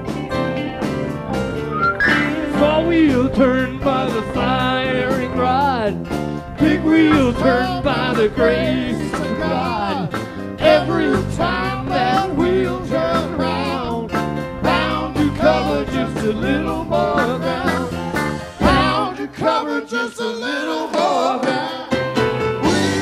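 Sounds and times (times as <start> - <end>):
sliding lead guitar line: 0.0 - 19.0
electric bass: 0.0 - 19.4, 22.2 - 23.0
live country-rock band: 0.0 - 19.6, 21.0 - 23.0.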